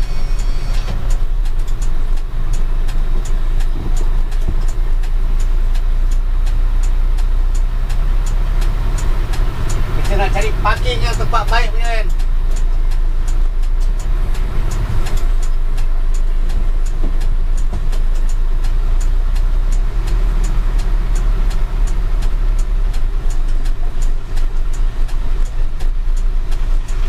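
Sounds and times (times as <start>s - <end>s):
diesel lorry engine running: 0.0s - 27.0s
light ticking: 0.0s - 27.0s.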